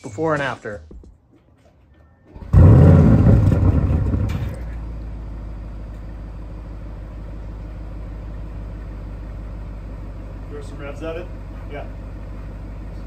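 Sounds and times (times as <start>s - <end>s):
car engine starting and idling: 2.3s - 13.0s.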